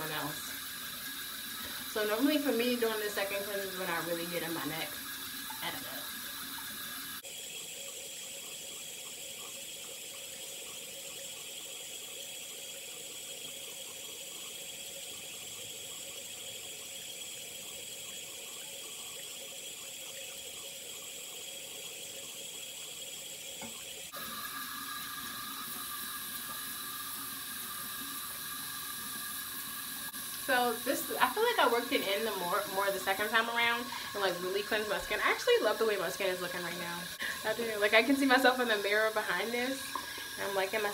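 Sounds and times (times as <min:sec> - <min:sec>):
tap water pouring into basin: 0:00.0 - 0:40.9.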